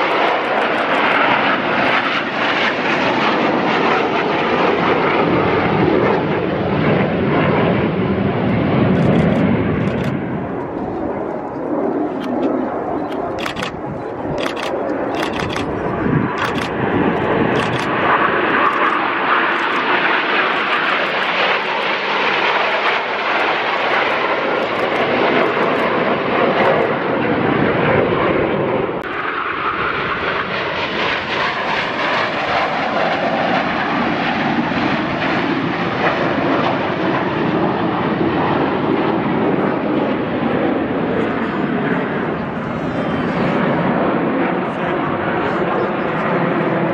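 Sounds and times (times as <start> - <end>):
aircraft engine noise: 0.0 - 46.9.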